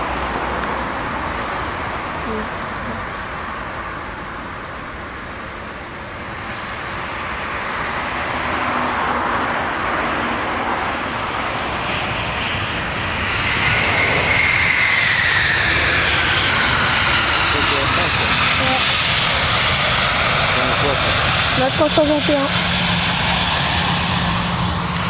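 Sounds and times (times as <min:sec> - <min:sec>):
high engine whine: 0:00.0 - 0:25.0
jet airliner engine noise: 0:00.0 - 0:25.0.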